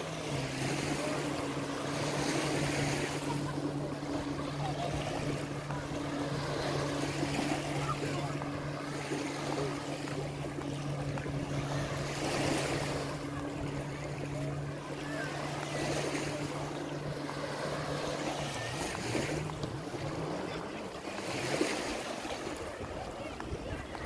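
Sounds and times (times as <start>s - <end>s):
low motor drone: 0.0s - 24.0s
waves washing on sandy beach: 0.0s - 24.0s.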